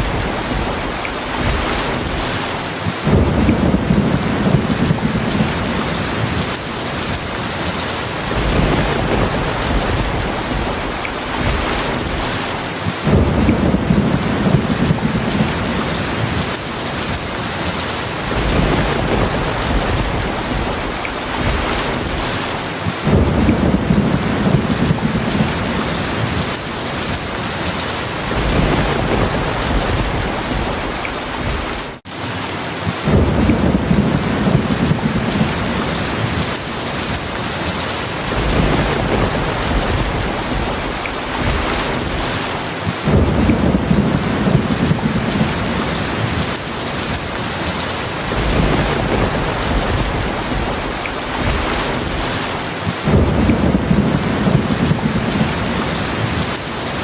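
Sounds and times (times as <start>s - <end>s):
low rolls of thunder: 0.0s - 32.0s, 32.9s - 57.0s
heavy rain: 0.0s - 57.0s.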